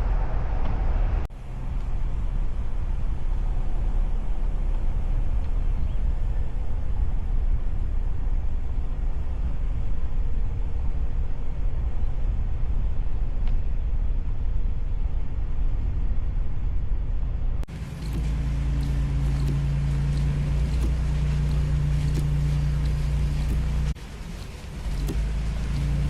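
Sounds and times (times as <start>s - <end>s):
car road rumble: 0.0s - 26.0s
steady hum: 0.0s - 26.0s.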